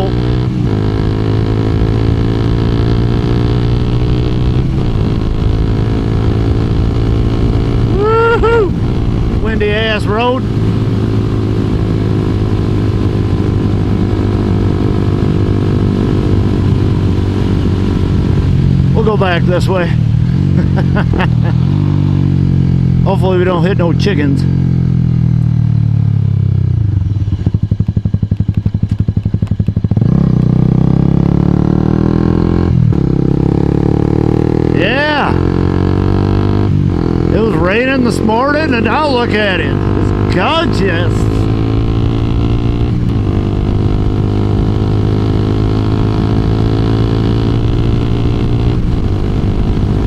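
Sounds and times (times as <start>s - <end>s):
motorcycle engine slowing and revving: 0.0s - 50.0s.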